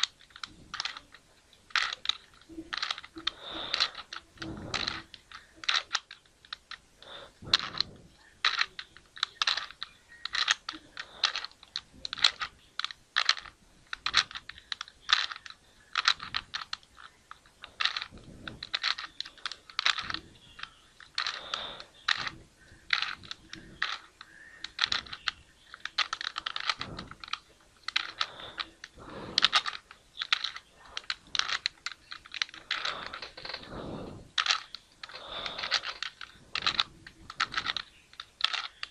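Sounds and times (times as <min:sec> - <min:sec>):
puzzle cube layers clicking: 0:00.0 - 0:38.9.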